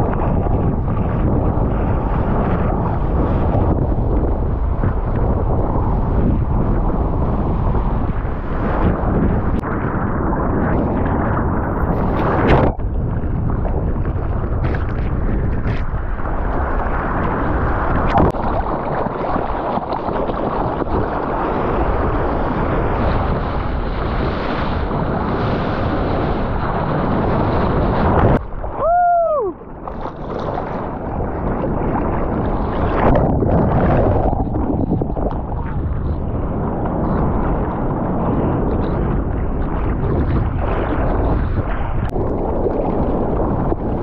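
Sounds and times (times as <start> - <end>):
sea water rushing and splashing: 0.0 - 44.0
wind buffeting microphone: 0.0 - 44.0.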